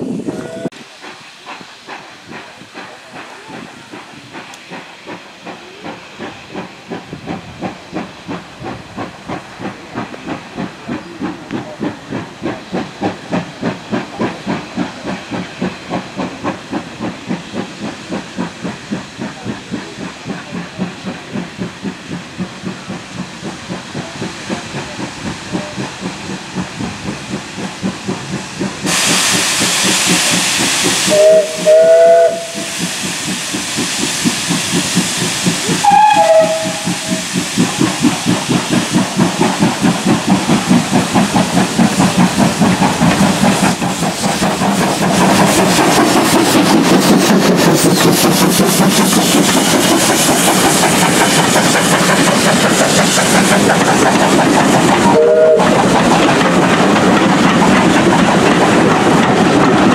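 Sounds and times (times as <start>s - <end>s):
steam hiss: 0.0s - 59.9s
steam locomotive chuffing: 0.0s - 59.9s.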